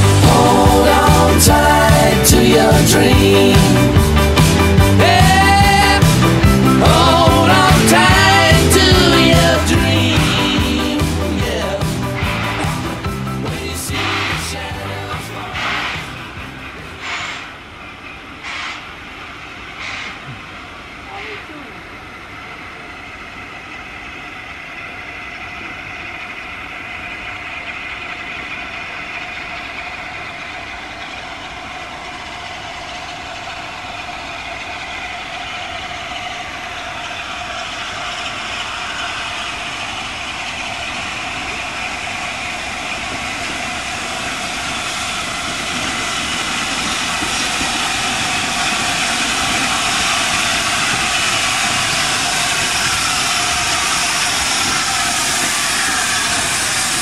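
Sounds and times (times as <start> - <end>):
steam locomotive approaching: 0.0 - 57.0.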